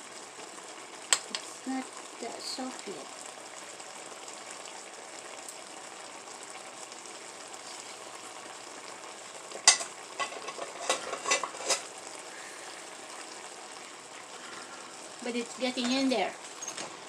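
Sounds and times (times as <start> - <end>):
curry sizzling in a pot: 0.0 - 17.0.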